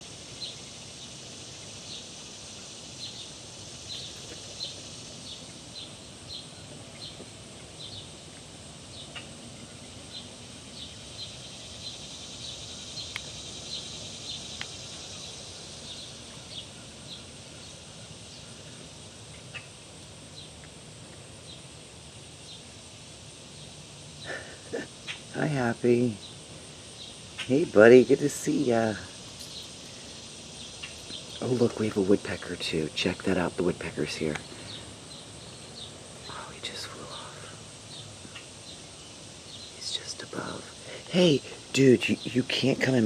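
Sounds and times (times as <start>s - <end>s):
steady high hiss: 0.0s - 43.0s.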